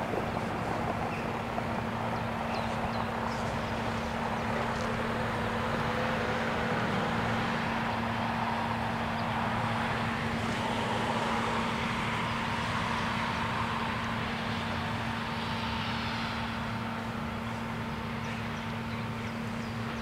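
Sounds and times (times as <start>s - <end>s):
vehicles rushing: 0.0s - 20.0s.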